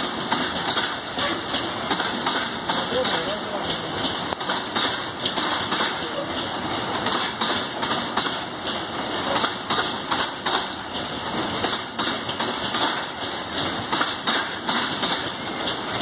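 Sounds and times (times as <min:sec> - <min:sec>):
train wheels rumbling on rails: 0:00.0 - 0:16.0
wheel clacks: 0:00.0 - 0:16.0.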